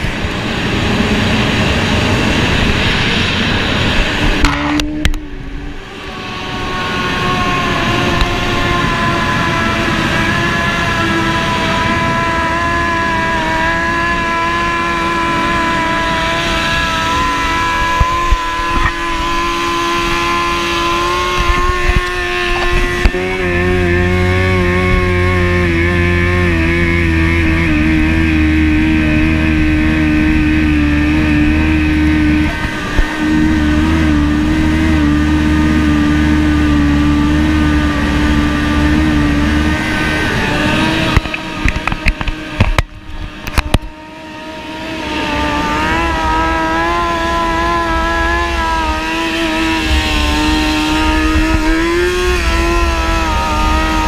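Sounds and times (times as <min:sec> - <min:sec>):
deeper engine tone: 0:00.0 - 0:54.0
motorcycle engines running: 0:00.0 - 0:54.0
wind rush on microphone: 0:00.0 - 0:54.0.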